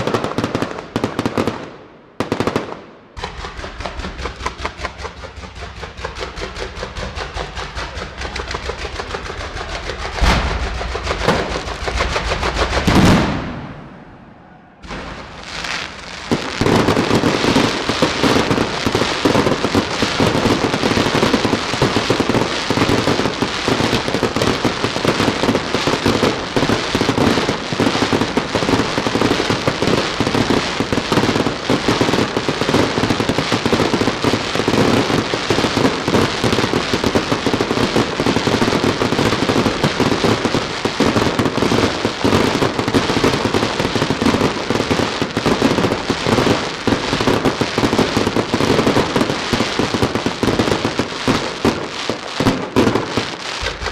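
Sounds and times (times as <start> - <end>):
fireworks bursting: 0.0 - 53.9.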